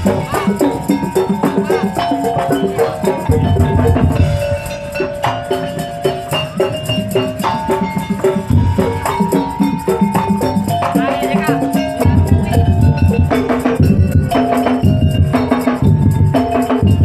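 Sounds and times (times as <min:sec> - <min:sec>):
fast dense percussion rhythm: 0:00.0 - 0:17.0
held melody line: 0:00.0 - 0:17.0.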